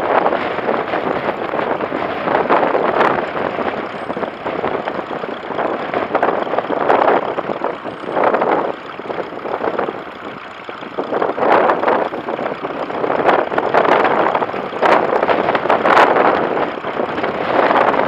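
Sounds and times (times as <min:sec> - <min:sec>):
tractor engine running under load: 0:00.0 - 0:18.0
wind gusting on microphone: 0:00.0 - 0:18.0.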